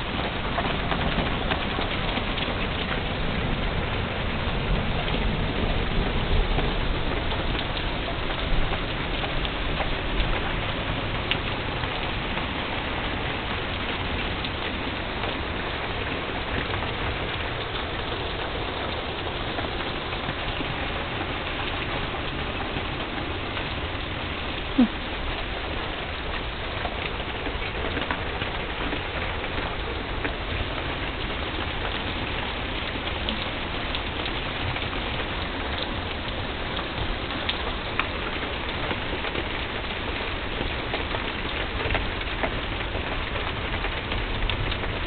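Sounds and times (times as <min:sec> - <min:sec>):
steady rain hissing: 0:00.0 - 0:45.0.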